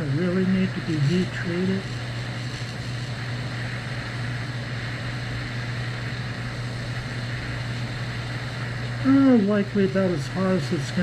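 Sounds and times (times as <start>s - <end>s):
gas torch roaring and hissing: 0.0s - 11.0s.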